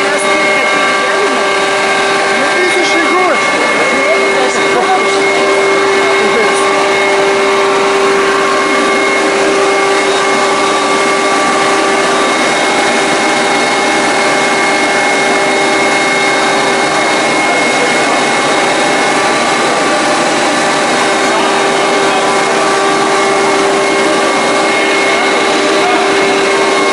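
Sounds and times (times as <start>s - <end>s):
hydraulic pump machine whine: 0.0s - 26.9s
rushing machine noise: 0.0s - 26.9s.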